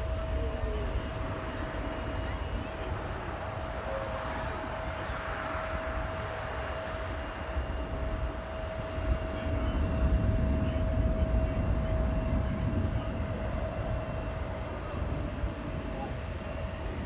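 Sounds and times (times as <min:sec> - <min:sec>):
jet engine whine: 0:00.0 - 0:17.0
jet engines low rumble: 0:00.0 - 0:17.0.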